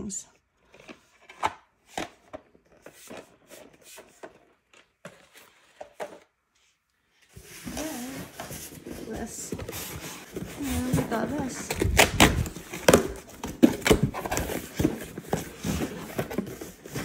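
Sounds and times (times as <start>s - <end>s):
cardboard rustling scrape: 2.6s - 17.0s.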